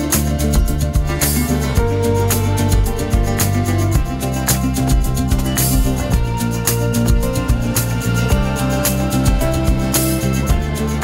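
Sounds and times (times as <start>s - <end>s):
upbeat guitar music: 0.0s - 11.0s.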